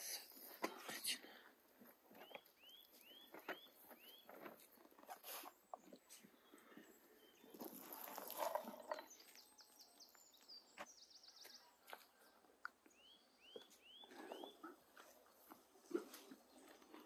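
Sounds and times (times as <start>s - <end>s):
small birds chirping: 2.1s - 17.0s.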